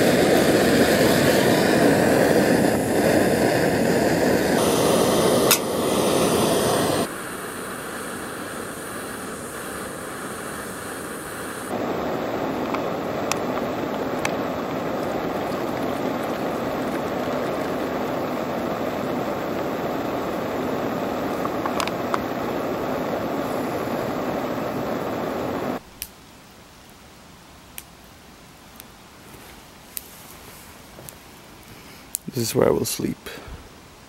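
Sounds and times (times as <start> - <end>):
campfire crackling: 0.0 - 33.1.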